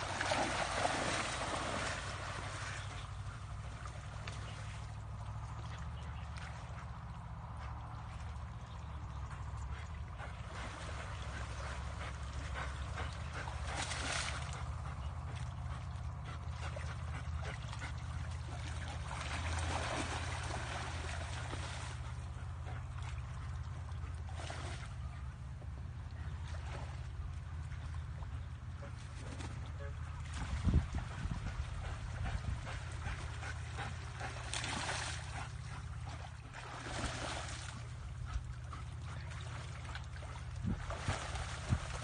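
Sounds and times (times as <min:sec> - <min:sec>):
steady low rumble: 0:00.0 - 0:42.0
water splashing and sloshing: 0:00.0 - 0:42.0.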